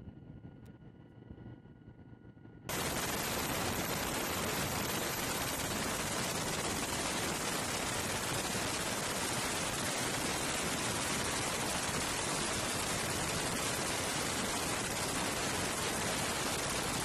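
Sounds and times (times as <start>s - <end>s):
steady rushing noise: 2.7s - 17.0s.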